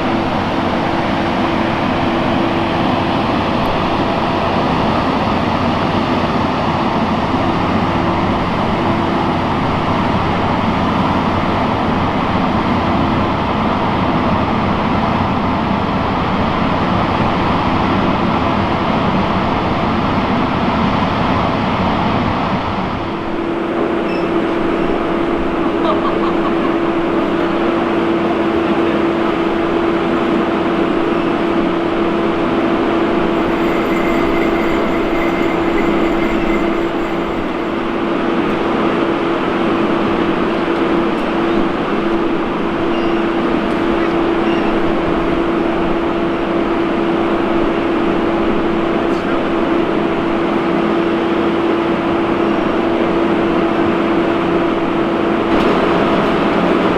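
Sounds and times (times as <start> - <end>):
train rumbling on track: 0.0 - 56.9.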